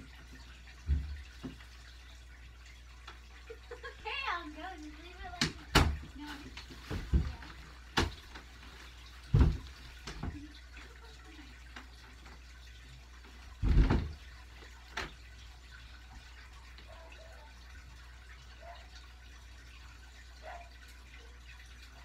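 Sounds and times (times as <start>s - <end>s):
aquarium filter water trickling: 0.0s - 22.0s.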